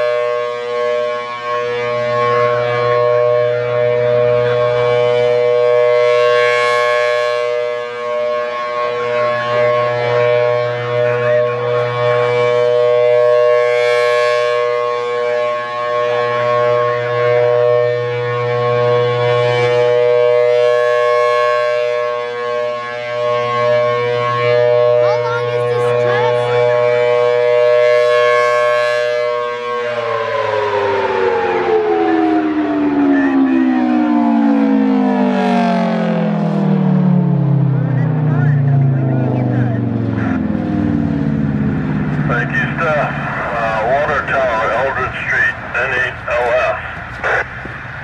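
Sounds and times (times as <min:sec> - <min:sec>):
rotating warning siren: 0:00.0 - 0:48.0.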